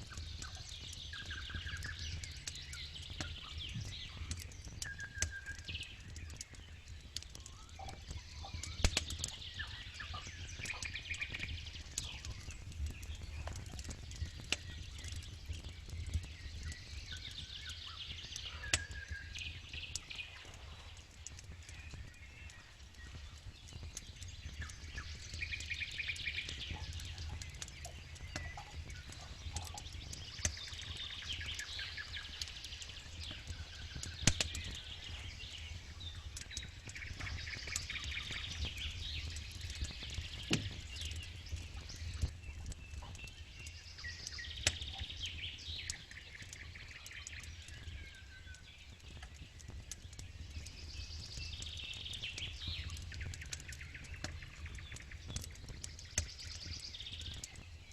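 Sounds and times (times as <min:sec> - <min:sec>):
campfire crackling and popping: 0:00.0 - 0:57.9
small birds singing: 0:00.0 - 0:57.9.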